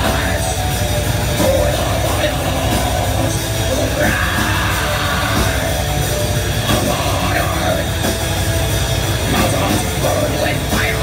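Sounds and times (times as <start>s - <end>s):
distorted electric guitars: 0.0s - 11.0s
fast dense drumming: 0.0s - 11.0s.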